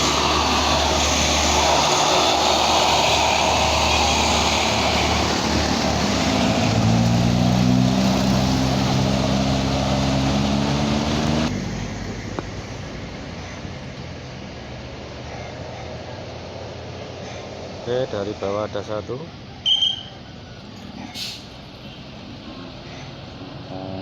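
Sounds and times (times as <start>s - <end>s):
bus engine climbing hill: 0.0s - 24.0s
road noise: 0.0s - 24.0s.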